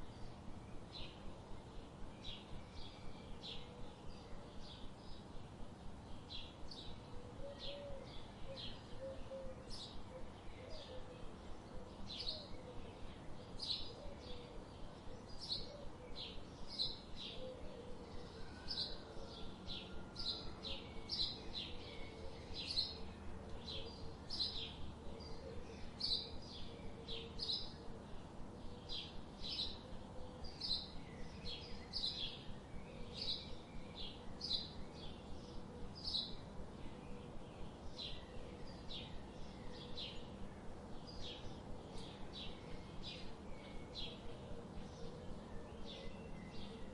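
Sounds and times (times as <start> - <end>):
faint background hiss: 0.0 - 46.9
songbird chirping: 0.0 - 46.9.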